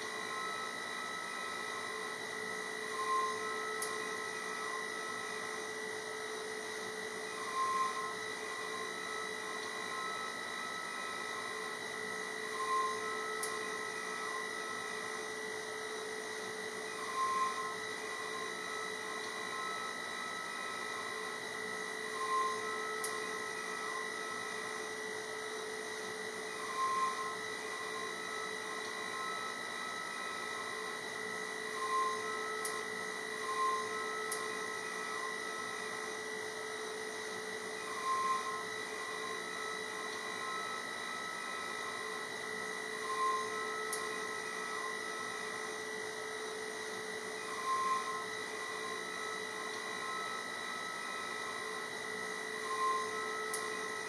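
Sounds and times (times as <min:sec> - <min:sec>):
cnc mill spindle whining: 0:00.0 - 0:54.0.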